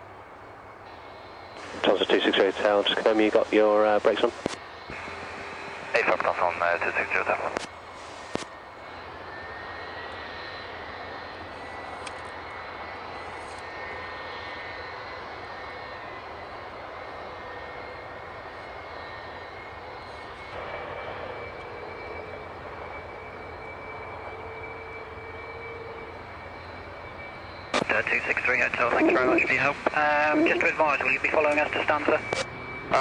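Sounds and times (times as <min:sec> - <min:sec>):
jet engine running: 0:00.0 - 0:33.0.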